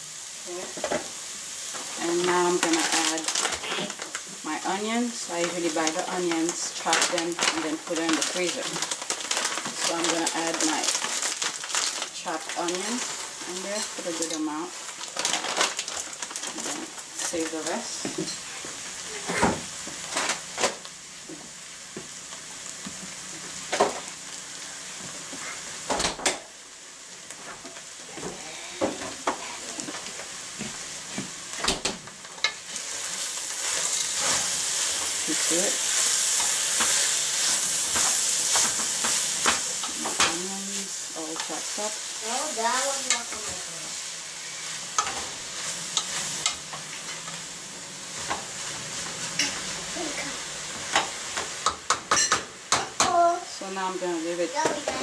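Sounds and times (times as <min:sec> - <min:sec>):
meat and onions sizzling: 0:00.0 - 0:55.0.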